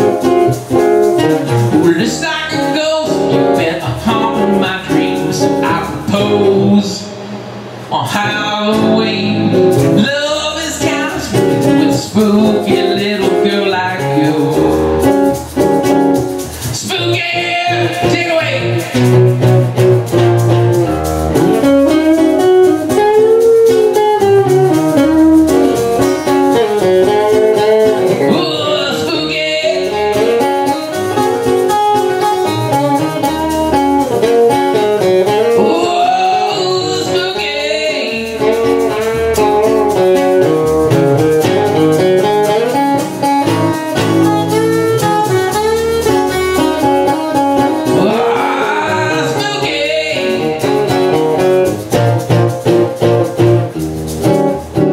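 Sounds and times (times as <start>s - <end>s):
acoustic guitar solo: 0.0s - 6.8s, 8.7s - 54.9s
strummed guitar chords: 0.0s - 54.9s.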